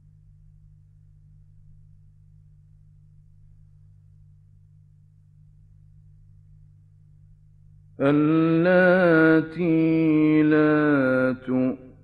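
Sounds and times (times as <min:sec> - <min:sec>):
low hum with hiss: 0:00.0 - 0:12.0.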